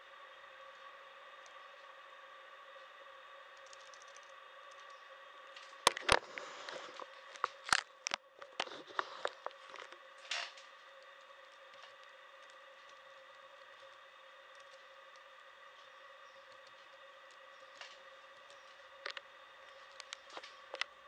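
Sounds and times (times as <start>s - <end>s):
faint high electronic whine: 0.0s - 21.0s.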